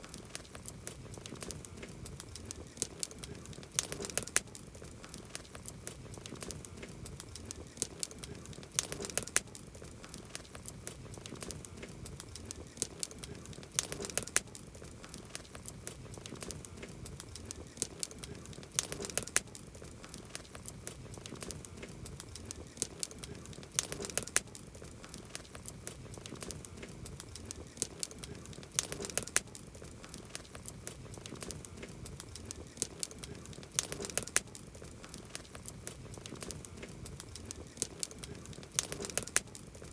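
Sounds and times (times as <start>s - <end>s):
campfire wood crackling: 0.0s - 39.9s
loud fire pops: 0.1s - 39.9s.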